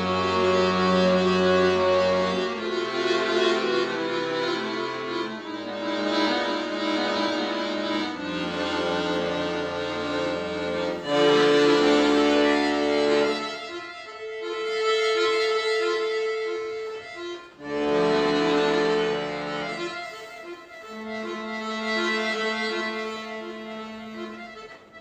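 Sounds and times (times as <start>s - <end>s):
solo accordion playing: 0.0s - 25.0s.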